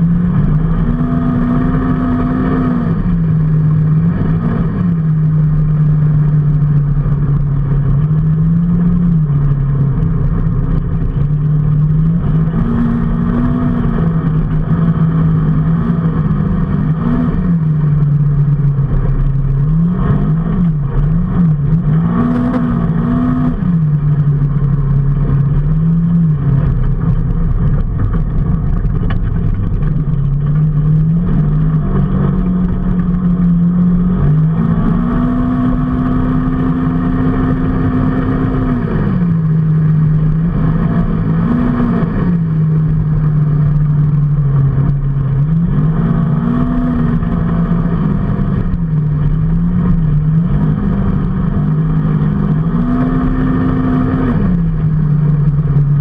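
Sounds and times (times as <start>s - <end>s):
road and wind noise: 0.0s - 56.0s
vehicle engine revving: 0.0s - 56.0s.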